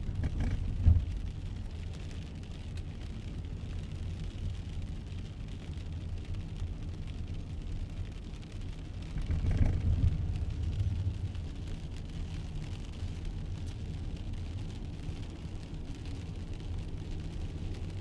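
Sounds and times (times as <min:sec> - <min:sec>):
patter of raindrops: 0:00.0 - 0:18.0
rain rumble: 0:00.0 - 0:18.0.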